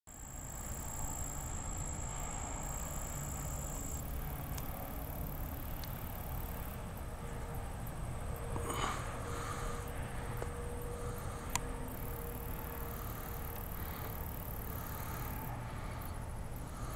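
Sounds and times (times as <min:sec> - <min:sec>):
thin high whine: 0:00.1 - 0:16.8.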